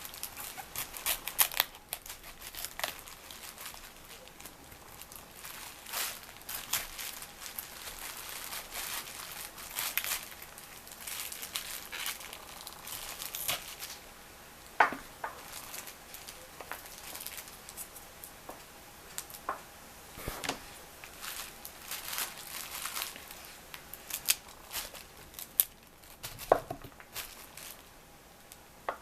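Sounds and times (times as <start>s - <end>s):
cauliflower stalks crackling and snapping: 0.0s - 19.5s, 20.2s - 29.0s.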